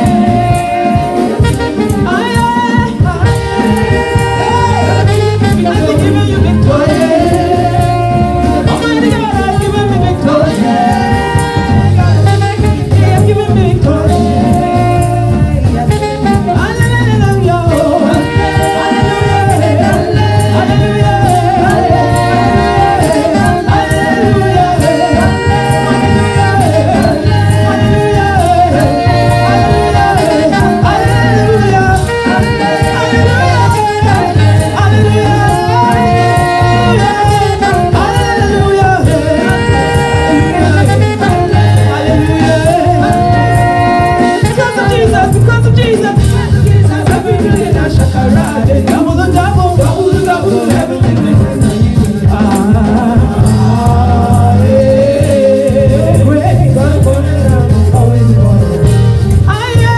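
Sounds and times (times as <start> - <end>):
instrumental backing with bass beat: 0.0 - 59.9
woman singing lead: 0.0 - 59.9.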